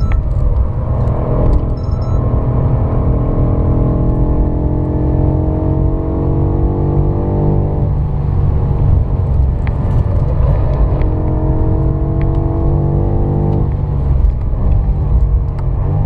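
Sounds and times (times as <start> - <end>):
car engine pulling hard: 0.0 - 16.0
road and tyre rumble: 0.0 - 16.0.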